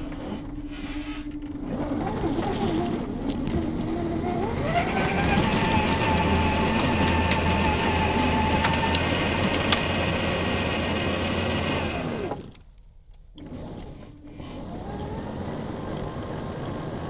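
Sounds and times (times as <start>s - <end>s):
electric motor and gearbox whining: 0.0s - 17.0s.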